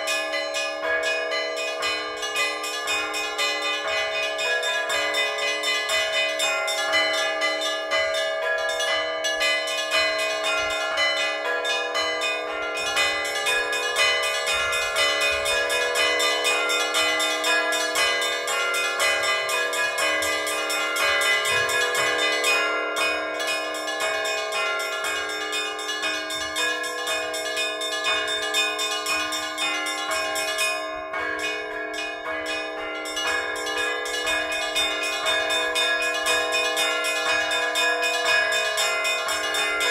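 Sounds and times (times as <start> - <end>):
large bells ringing: 0.0 - 39.9
small church bells struck quickly: 0.0 - 39.9.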